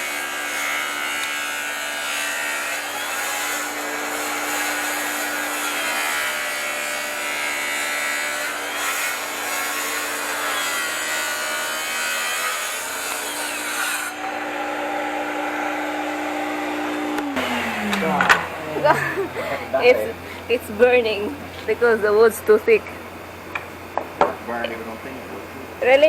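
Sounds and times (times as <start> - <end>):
track saw cutting wood: 0.0 - 22.3.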